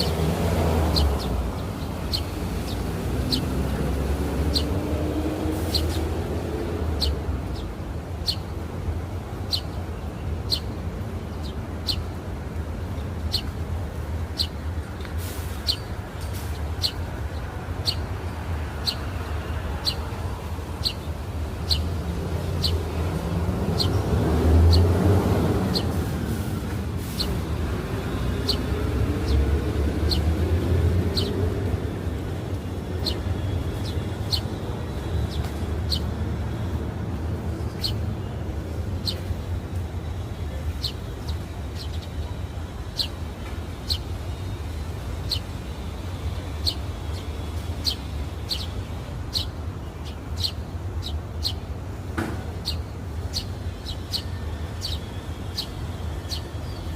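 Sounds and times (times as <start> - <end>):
sparrows chirping: 0.0 - 56.9.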